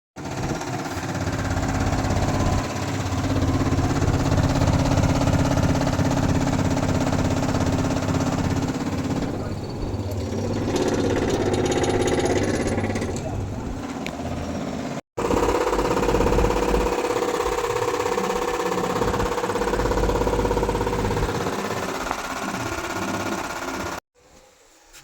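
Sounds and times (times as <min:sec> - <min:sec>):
vibration rattle: 0:00.2 - 0:24.0.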